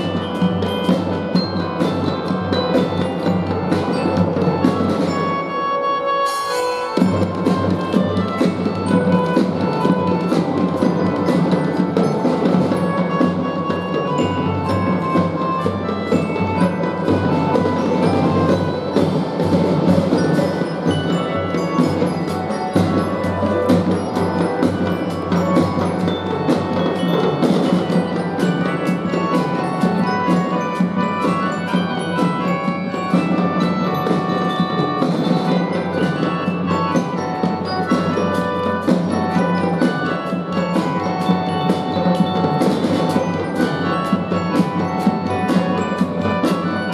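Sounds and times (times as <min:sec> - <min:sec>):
steady drum beats: 0:00.0 - 0:05.6, 0:06.3 - 0:46.9
mallet percussion melody: 0:00.0 - 0:46.9.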